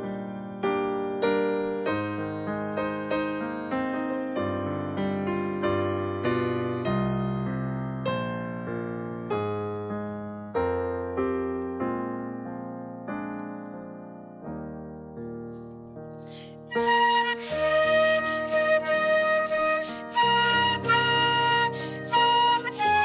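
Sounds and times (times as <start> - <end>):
piano playing slow chords: 0.0 - 23.0.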